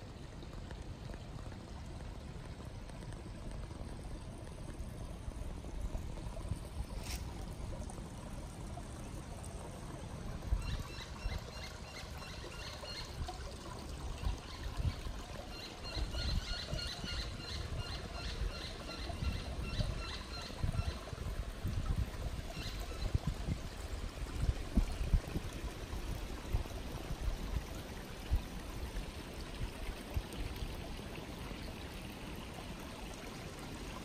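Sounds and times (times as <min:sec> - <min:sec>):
water trickling over rocks: 0:00.0 - 0:34.0.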